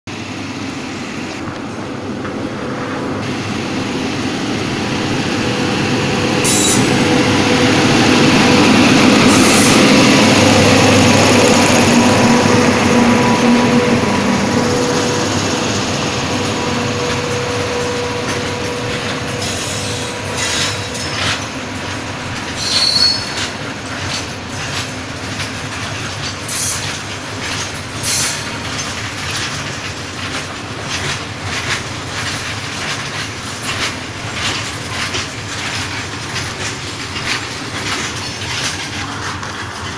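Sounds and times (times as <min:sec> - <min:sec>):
electric locomotive rumble and whine: 0:00.1 - 0:39.9
freight wagons rumbling past: 0:04.8 - 0:39.9
sharp knocks of train wheels: 0:06.0 - 0:39.9.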